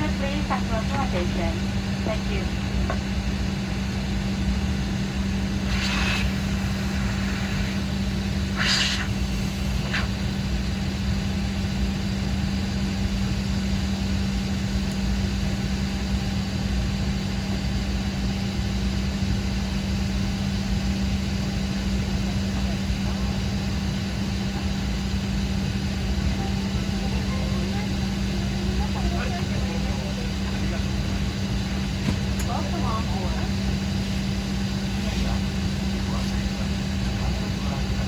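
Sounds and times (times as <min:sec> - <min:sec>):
aircraft cabin drone: 0:00.0 - 0:38.0.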